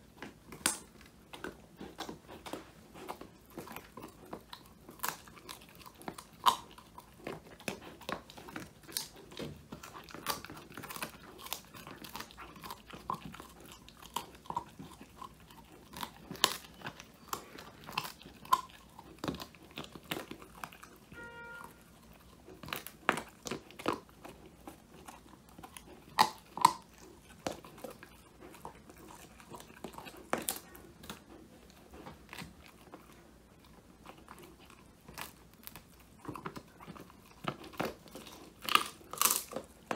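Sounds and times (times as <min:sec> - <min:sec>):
dog chewing bones: 0:00.0 - 0:39.9.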